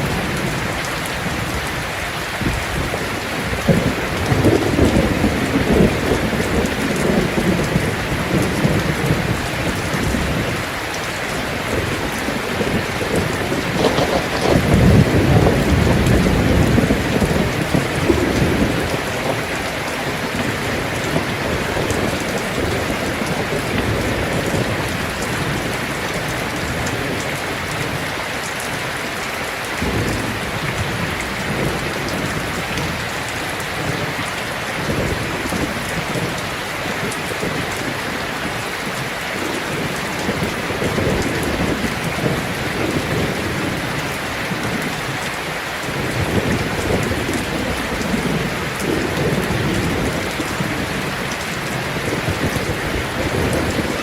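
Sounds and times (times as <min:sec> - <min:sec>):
thunder rumbling: 0:00.0 - 0:28.0, 0:29.8 - 0:54.0
heavy rain on a tin roof: 0:00.0 - 0:54.0.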